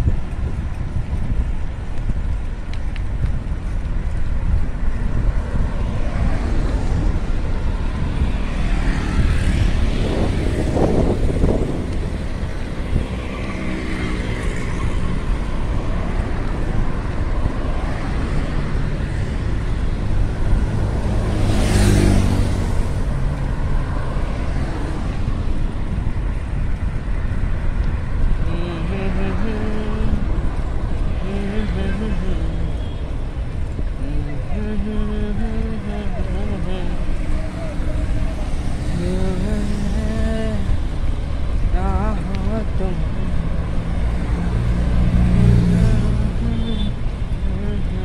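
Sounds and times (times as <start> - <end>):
road traffic: 0.0 - 48.0
vehicle passing: 0.0 - 48.0.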